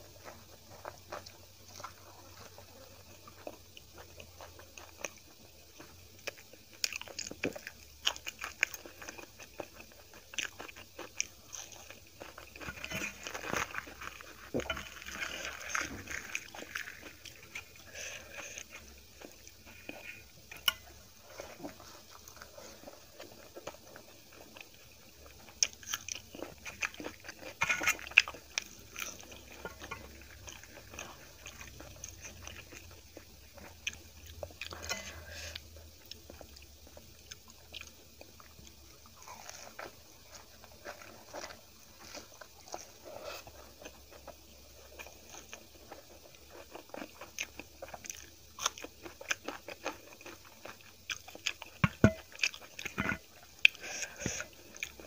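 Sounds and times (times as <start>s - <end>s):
chewing and biting food: 0.0s - 20.9s, 21.5s - 55.0s.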